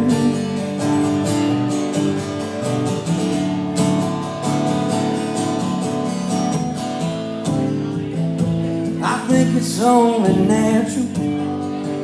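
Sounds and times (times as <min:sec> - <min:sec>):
country band accompaniment: 0:00.0 - 0:12.0
strummed acoustic guitar: 0:00.0 - 0:12.0.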